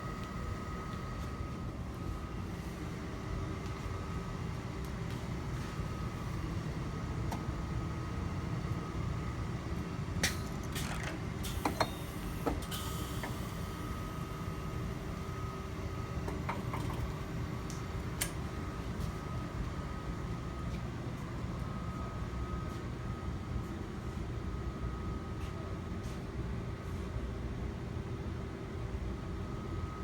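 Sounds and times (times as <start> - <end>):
faint steady whine: 0.0 - 30.0
low machine hum: 0.0 - 30.0.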